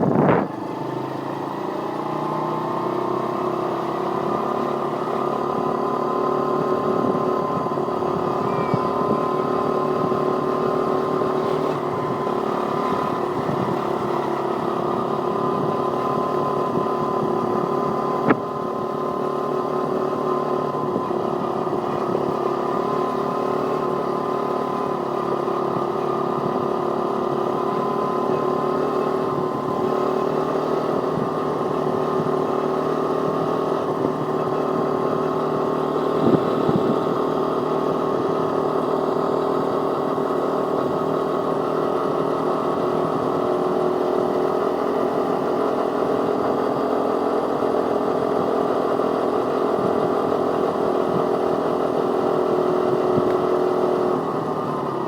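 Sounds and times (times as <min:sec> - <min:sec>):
pit bike engine running: 0:00.0 - 0:55.0.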